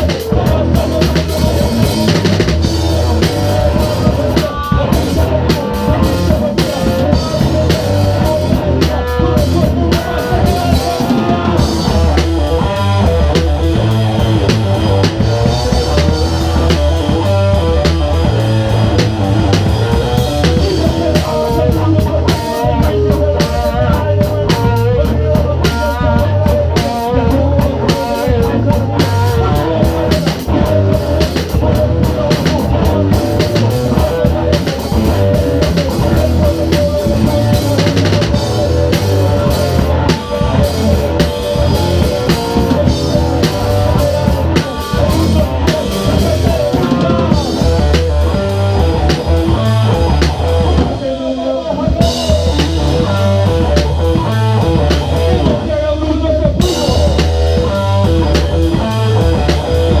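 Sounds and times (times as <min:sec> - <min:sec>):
rock band playing: 0:00.0 - 1:00.0.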